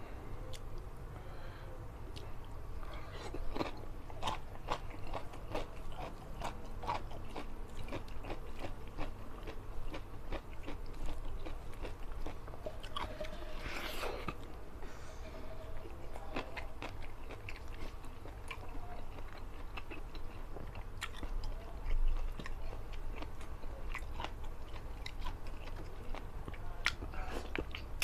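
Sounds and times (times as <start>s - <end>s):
person chewing and crunching: 2.1s - 14.6s, 15.7s - 28.0s.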